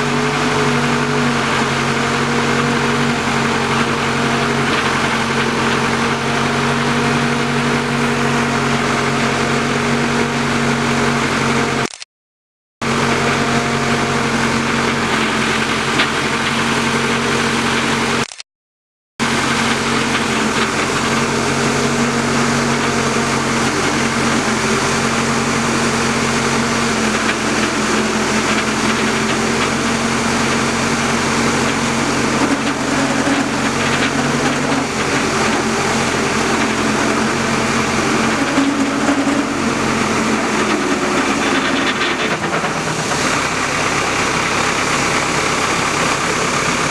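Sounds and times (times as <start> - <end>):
tractor engine running: 0.0 - 12.0, 12.8 - 18.4, 19.2 - 46.9.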